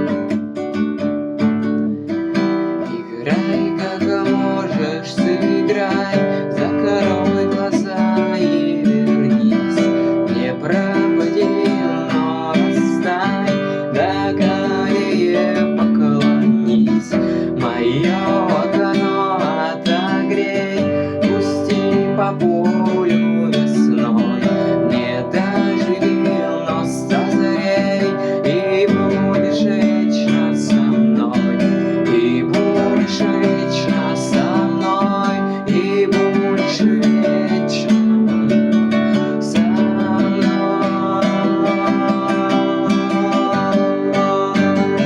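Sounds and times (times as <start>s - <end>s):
acoustic guitar playing: 0.0s - 45.0s.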